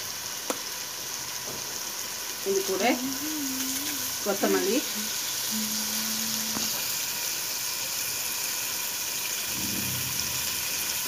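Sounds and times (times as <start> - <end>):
sauce sizzling in oil: 0.0 - 11.0.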